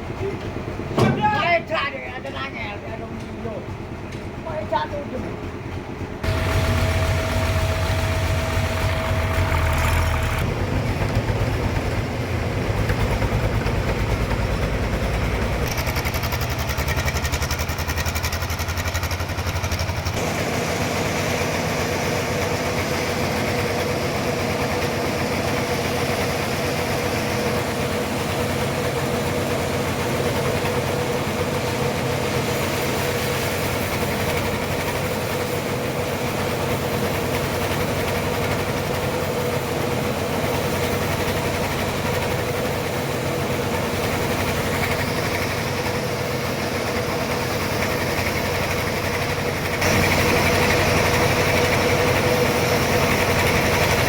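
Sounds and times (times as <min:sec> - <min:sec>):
constant machine whine: 0:00.0 - 0:54.0
sawmill machinery sawing log: 0:06.2 - 0:54.0.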